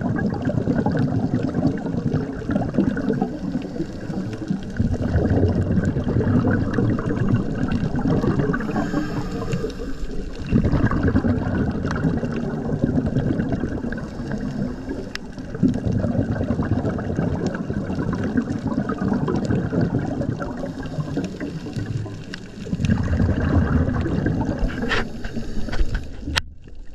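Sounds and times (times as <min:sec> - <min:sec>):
water gurgling and rushing: 0:00.0 - 0:26.9.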